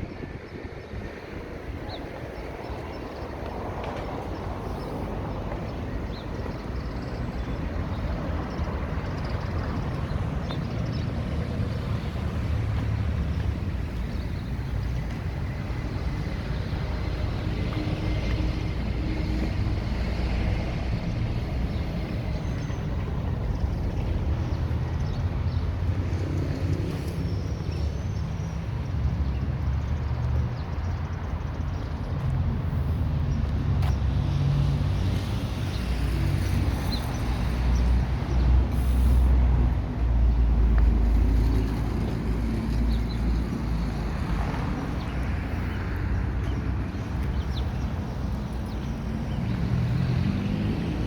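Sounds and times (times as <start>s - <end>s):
street traffic rumble: 0.0s - 51.0s.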